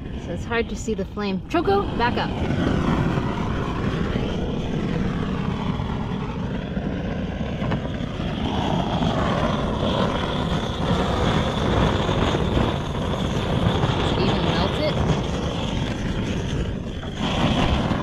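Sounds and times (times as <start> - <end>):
blowtorch flame rushing: 0.0 - 18.0.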